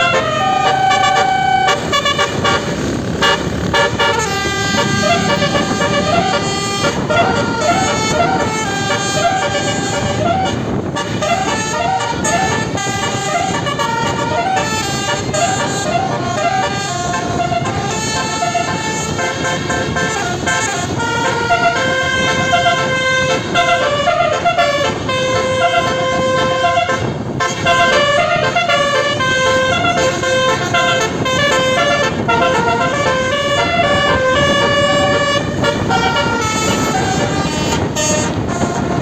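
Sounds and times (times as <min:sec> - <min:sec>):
bus horn playing melody: 0:00.0 - 0:39.0.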